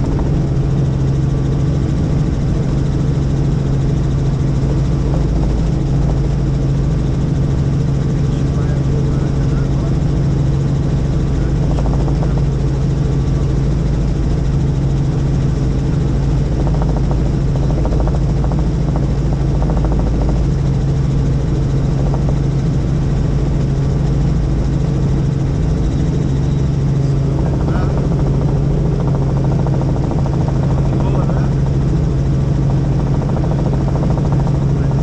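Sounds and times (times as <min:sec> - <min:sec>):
helicopter rotor drone: 0:00.0 - 0:35.0.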